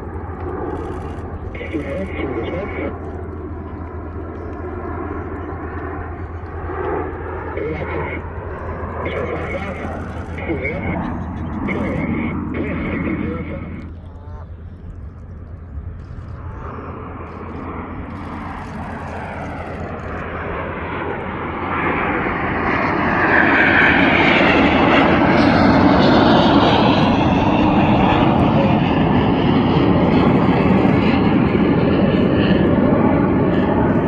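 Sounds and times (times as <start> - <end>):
jets flying by: 0.0 - 34.0.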